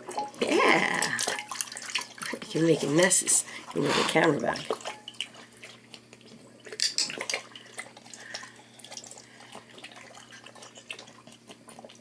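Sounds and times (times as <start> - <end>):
dog splashing water in bowl: 0.0 - 12.0.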